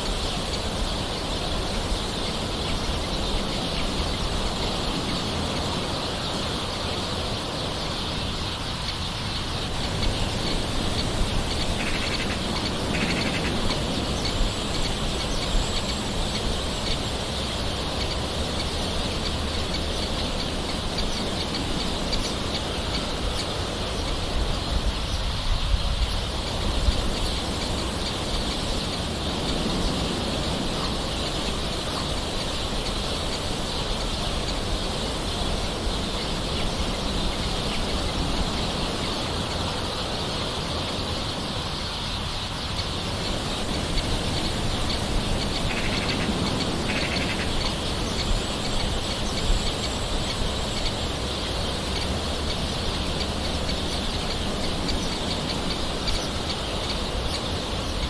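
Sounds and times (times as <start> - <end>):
bird calls: 0.0 - 58.0
gentle rain hiss: 0.0 - 58.0.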